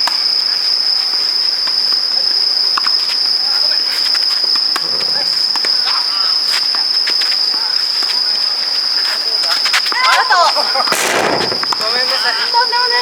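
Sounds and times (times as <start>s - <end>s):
insects singing: 0.0s - 13.0s.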